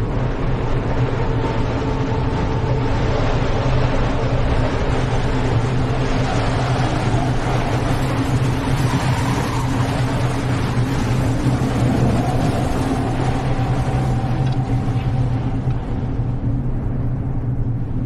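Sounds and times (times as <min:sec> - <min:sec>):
low droning rumble: 0:00.0 - 0:18.0.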